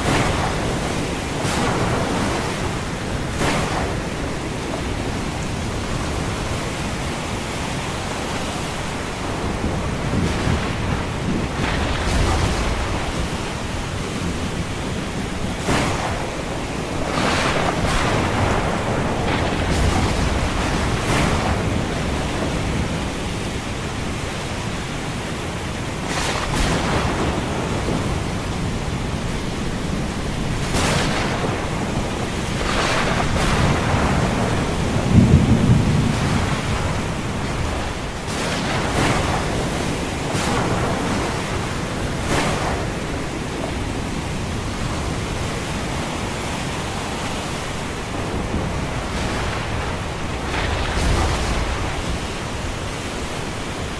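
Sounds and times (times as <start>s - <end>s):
thunder rolling: 0.0s - 7.1s, 9.0s - 24.2s, 26.0s - 46.0s, 48.0s - 53.5s
ocean surf washing in: 0.0s - 53.9s
steady rain: 0.0s - 53.9s.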